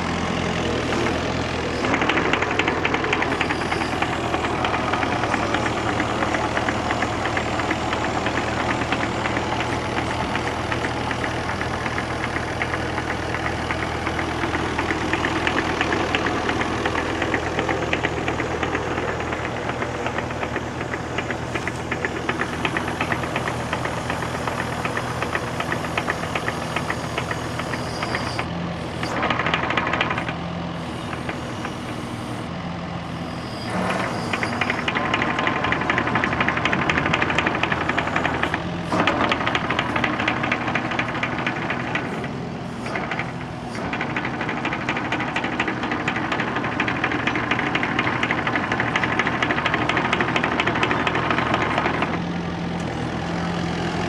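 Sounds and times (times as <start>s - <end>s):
earth-moving machine engine rattling: 0.0s - 54.0s.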